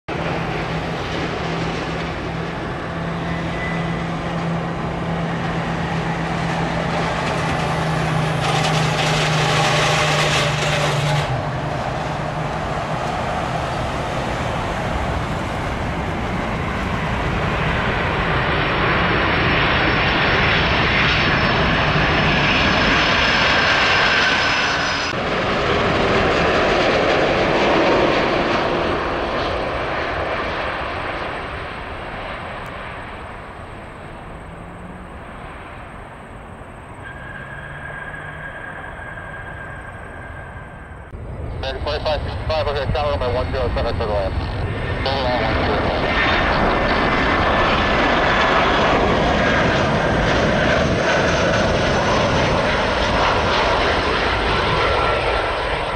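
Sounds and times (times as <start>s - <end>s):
jet engines roaring: 0.1s - 55.9s.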